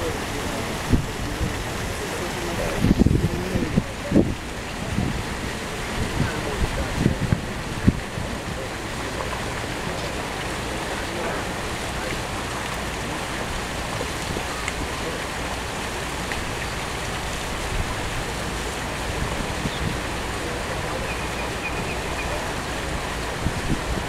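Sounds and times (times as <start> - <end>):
faint crowd murmur: 0.0 - 24.0
wind buffeting microphone: 0.0 - 24.0.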